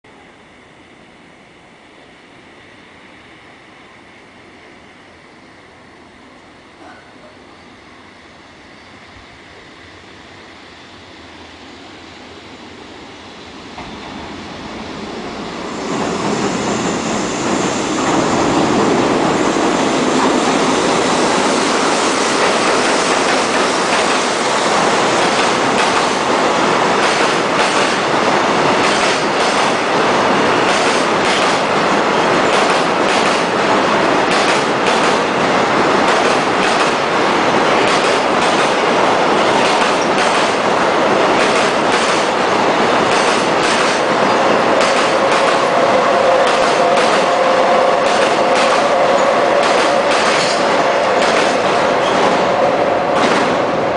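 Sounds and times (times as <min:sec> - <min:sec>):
freight train passing: 0:00.1 - 0:53.9.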